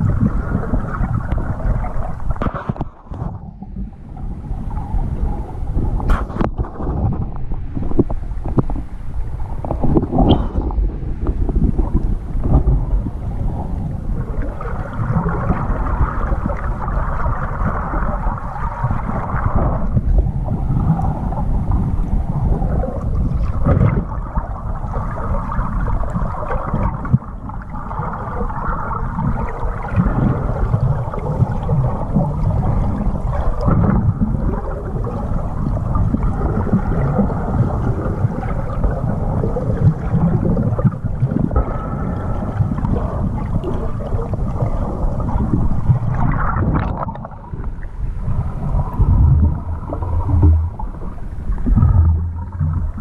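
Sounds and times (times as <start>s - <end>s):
muffled underwater rumbling: 0.0s - 53.0s.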